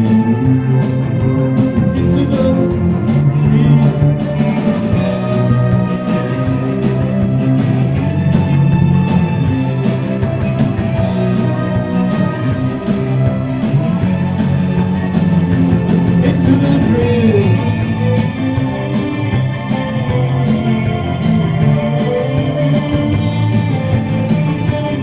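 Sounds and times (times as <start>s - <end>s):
drum beat: 0.0s - 21.8s
bass guitar: 0.0s - 25.0s
electric guitars: 0.0s - 25.0s.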